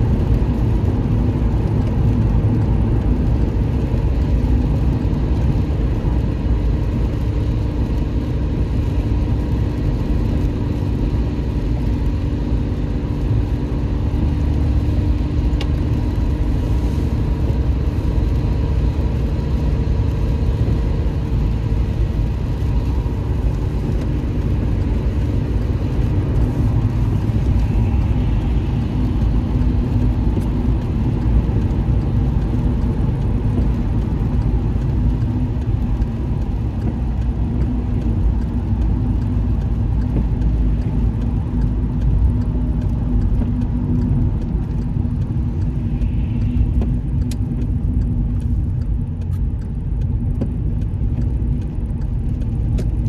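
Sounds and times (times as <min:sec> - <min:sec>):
faint engine hum: 0:00.0 - 0:53.0
road and tyre rumble: 0:00.0 - 0:53.0.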